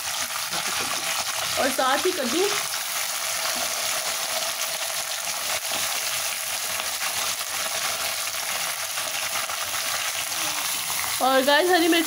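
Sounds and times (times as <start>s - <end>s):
hot oil sizzling in a wok: 0.0s - 12.0s.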